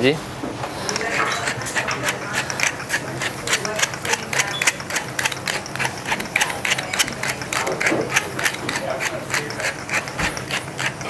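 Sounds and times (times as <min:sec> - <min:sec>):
salt mill grinding clicks: 0:00.9 - 0:11.0.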